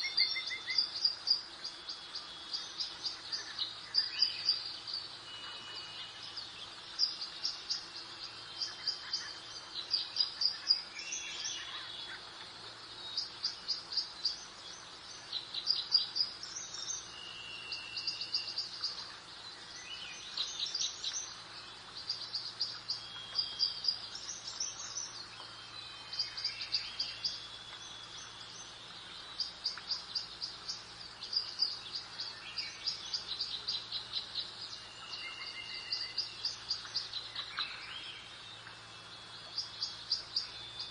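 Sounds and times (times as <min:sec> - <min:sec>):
birds chirping and trilling: 0:00.0 - 0:40.9
faint background hiss: 0:00.0 - 0:40.9.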